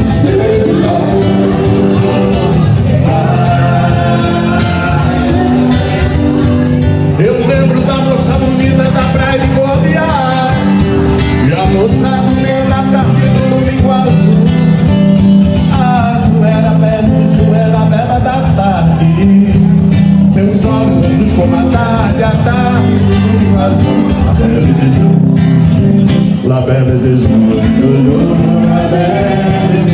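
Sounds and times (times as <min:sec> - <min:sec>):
song with singing and guitar: 0:00.0 - 0:29.9.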